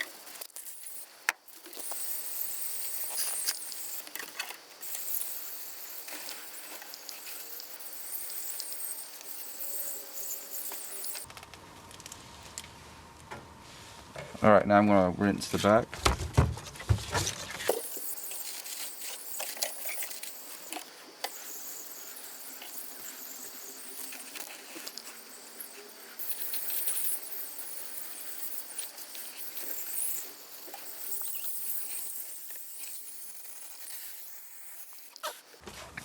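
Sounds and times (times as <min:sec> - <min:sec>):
liquid spraying onto coil: 0:00.0 - 0:11.3, 0:17.7 - 0:35.6.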